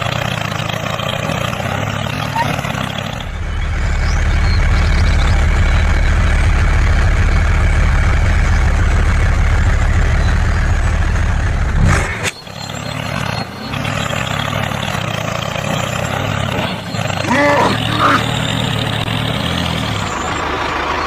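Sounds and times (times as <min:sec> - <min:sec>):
quieter engine low hum: 0:00.0 - 0:21.0
vehicle engine deep rumble: 0:00.0 - 0:21.0.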